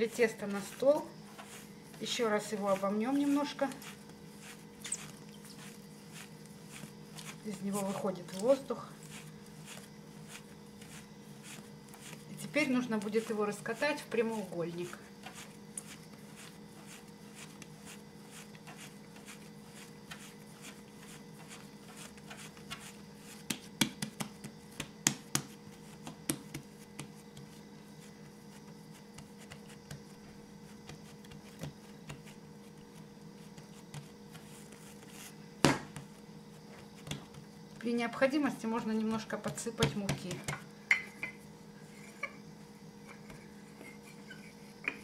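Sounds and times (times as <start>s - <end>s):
steady low hum: 0.0s - 45.0s
hands handling dough: 0.2s - 38.2s.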